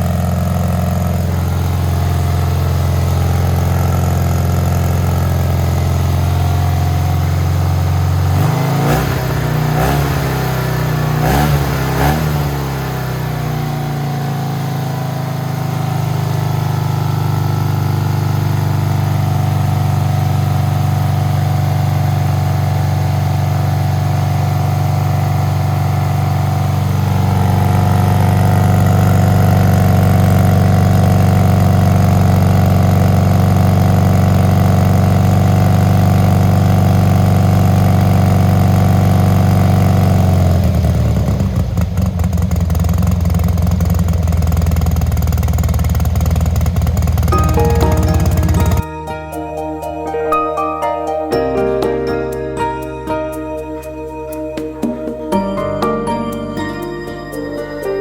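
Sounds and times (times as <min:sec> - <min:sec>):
small car engine running: 0:00.0 - 0:48.9.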